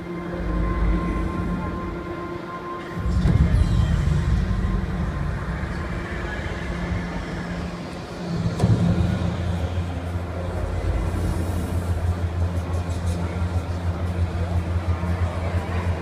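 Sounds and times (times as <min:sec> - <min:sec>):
steady droning tone: 0:00.0 - 0:16.0.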